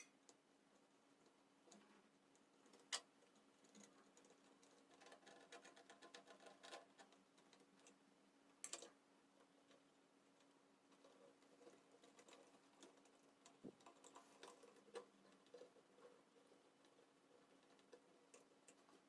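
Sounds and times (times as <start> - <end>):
faint clicks and ticking: 0.0 - 19.0.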